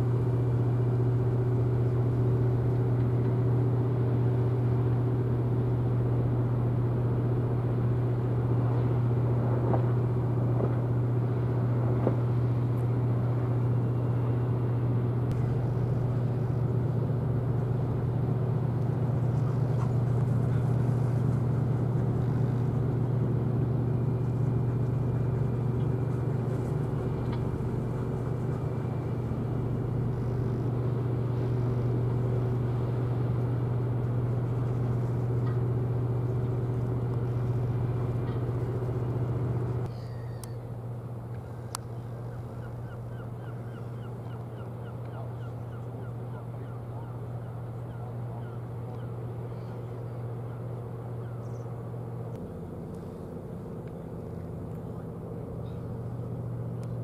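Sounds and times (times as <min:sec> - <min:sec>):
ship machinery low drone: 0:00.0 - 0:57.0.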